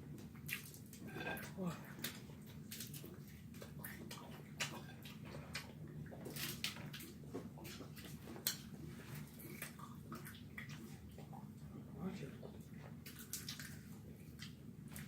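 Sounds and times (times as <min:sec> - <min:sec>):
wet chewing and lip-smacking: 0:00.1 - 0:11.6, 0:12.5 - 0:15.0.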